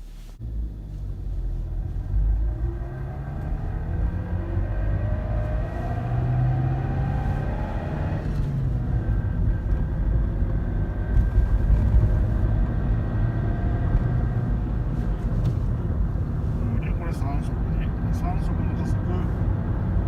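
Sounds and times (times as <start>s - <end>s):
car engine and road rumble: 0.0s - 20.0s
faint rising engine whine: 0.4s - 20.0s.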